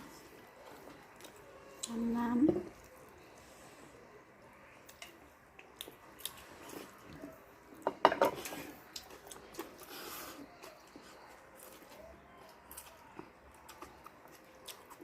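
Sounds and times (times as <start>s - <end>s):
chewing and wet mouth sounds: 0.0s - 7.8s, 8.4s - 15.0s.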